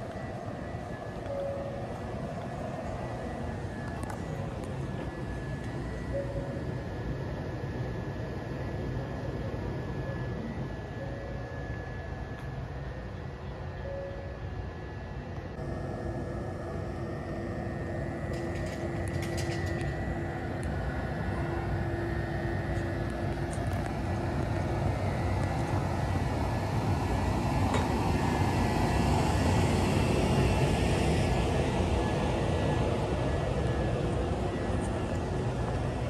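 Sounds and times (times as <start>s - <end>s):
electric train equipment humming: 0.0s - 36.0s.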